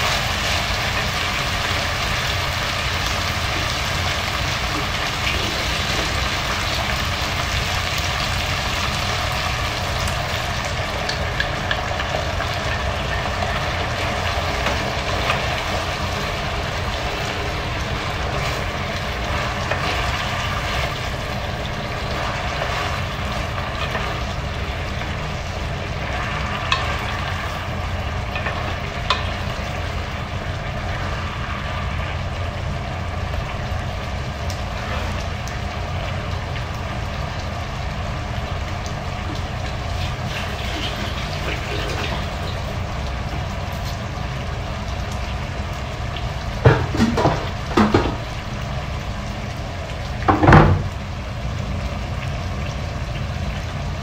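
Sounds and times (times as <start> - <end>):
sauce sizzling and bubbling: 0.0 - 54.0.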